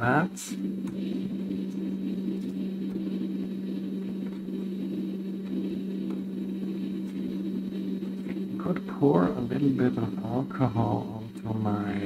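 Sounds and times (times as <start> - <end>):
hot air blower humming: 0.0 - 12.0.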